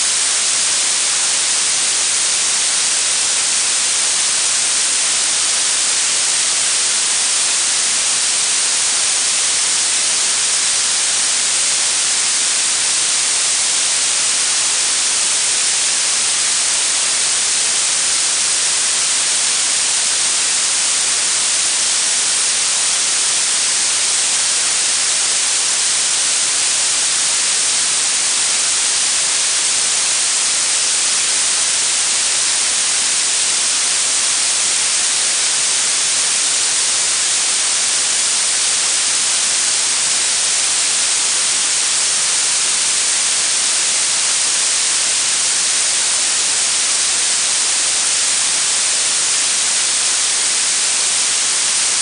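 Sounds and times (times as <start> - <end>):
steady treble hiss: 0.0 - 52.0.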